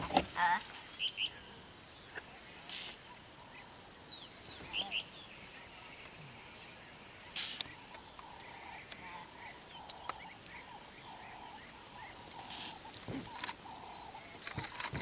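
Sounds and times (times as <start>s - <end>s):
birds calling: 0.0s - 15.0s
bird chirps: 0.4s - 15.0s.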